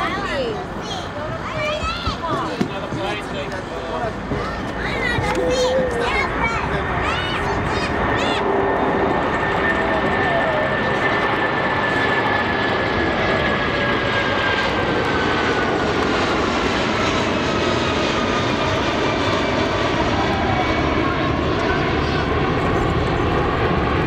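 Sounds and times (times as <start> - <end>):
jet airliner climbing: 0.0 - 24.0.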